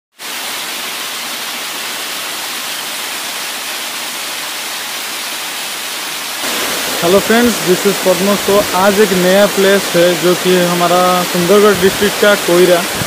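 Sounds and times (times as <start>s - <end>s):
waterfall splashing: 0.2s - 13.0s.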